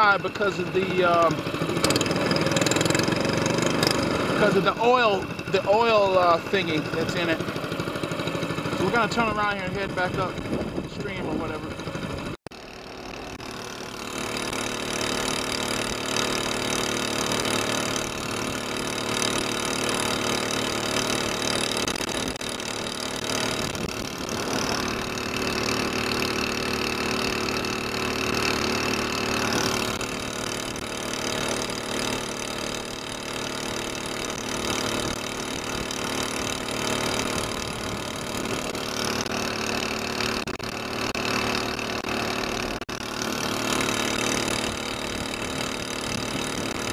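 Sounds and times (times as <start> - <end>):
small boat engine running: 0.0 - 46.9.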